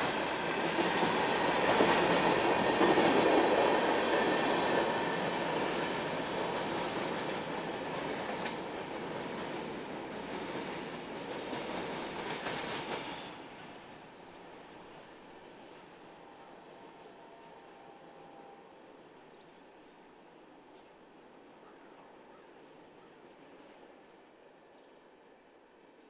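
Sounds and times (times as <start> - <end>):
train rolling past on rails: 0.0 - 26.0.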